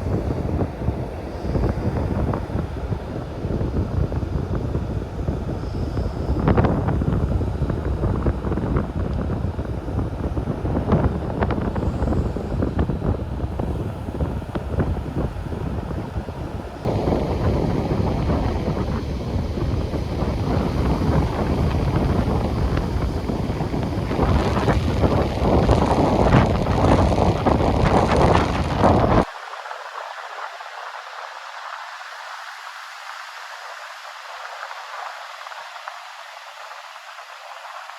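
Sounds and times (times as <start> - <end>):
sea surf: 0.0 - 37.9
wind buffeting microphone: 0.0 - 37.9.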